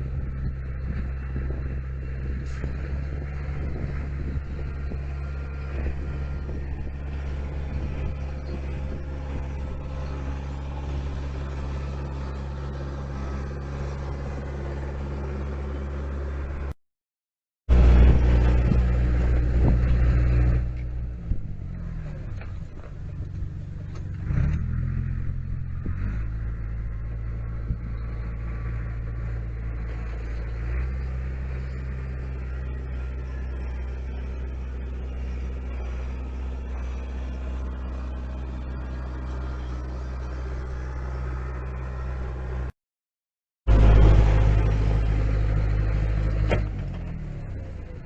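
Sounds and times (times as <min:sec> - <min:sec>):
diesel truck engine running: 0:00.0 - 0:16.8, 0:17.7 - 0:42.7, 0:43.7 - 0:48.0.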